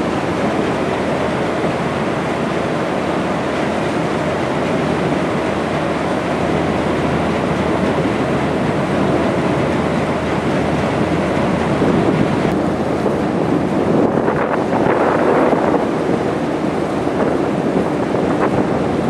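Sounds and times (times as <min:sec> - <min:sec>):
boat engine rumble: 0:00.0 - 0:19.0
rushing water: 0:00.0 - 0:19.0
wind on microphone: 0:00.0 - 0:19.0.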